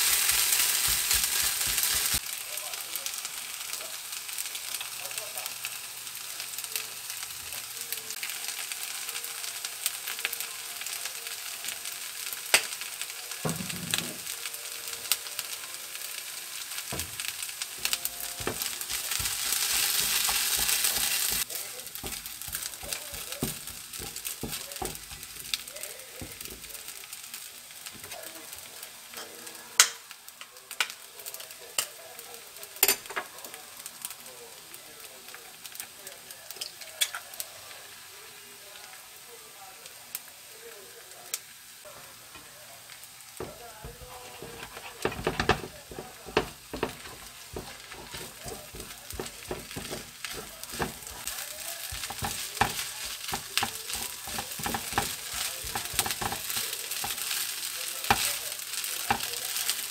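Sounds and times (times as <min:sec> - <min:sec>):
rice sizzling in a frying pan: 0:00.0 - 0:59.9.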